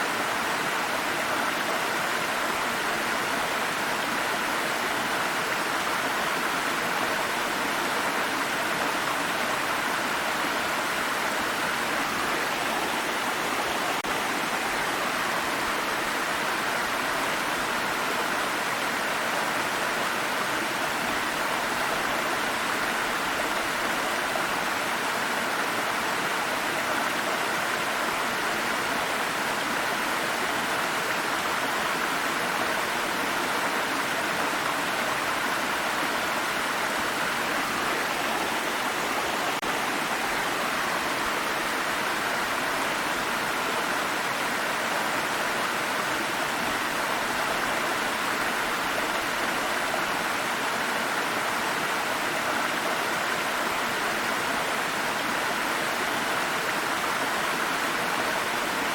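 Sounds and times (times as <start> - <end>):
stream babbling over rocks: 0.0 - 58.9.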